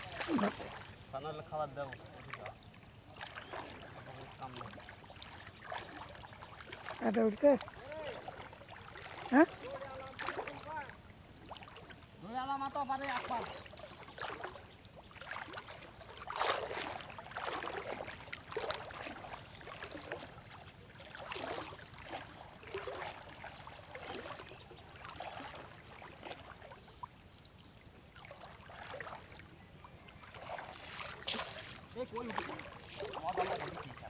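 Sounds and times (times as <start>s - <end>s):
legs wading through water: 0.0s - 34.0s.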